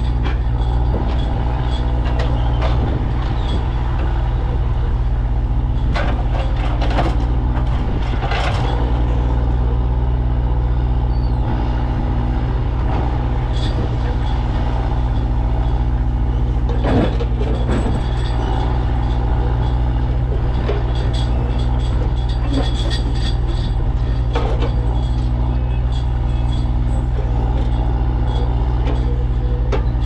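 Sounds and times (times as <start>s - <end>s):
track loader diesel engine running: 0.0s - 30.0s.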